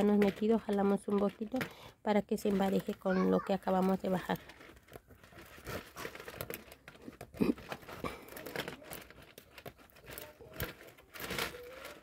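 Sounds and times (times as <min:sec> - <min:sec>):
dried palm leaves crinkling: 0:00.0 - 0:12.0.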